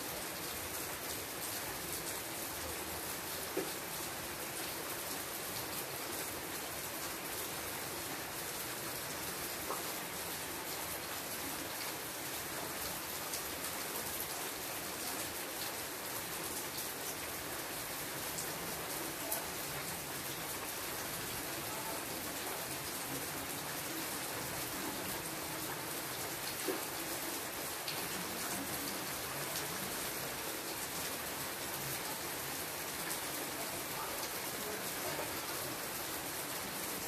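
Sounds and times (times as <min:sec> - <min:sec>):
rain falling on leaves: 0:00.0 - 0:37.0.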